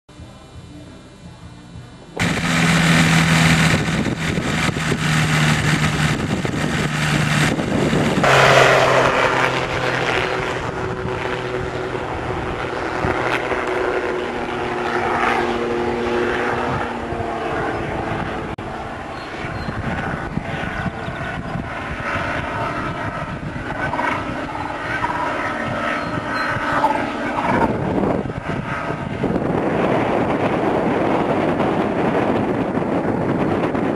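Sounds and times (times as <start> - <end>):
ultralight engine and propeller: 0.1 - 33.9.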